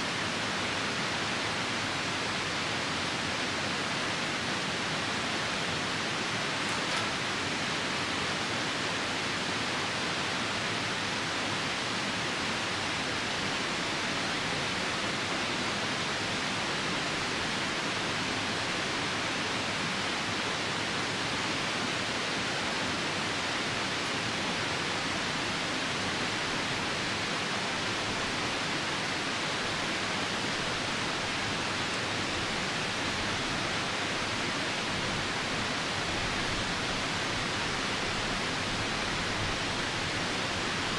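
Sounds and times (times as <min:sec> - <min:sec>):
rain falling: 0:00.0 - 0:40.9
river rushing: 0:00.0 - 0:40.9.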